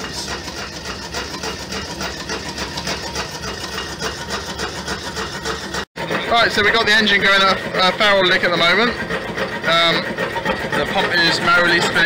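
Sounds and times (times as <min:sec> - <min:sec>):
stirling engine mechanical beat: 0:00.0 - 0:12.0.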